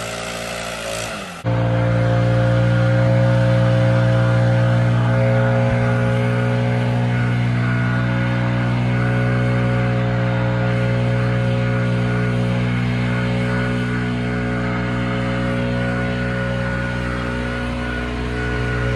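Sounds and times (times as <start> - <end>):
engine droning steadily: 0.0 - 18.9.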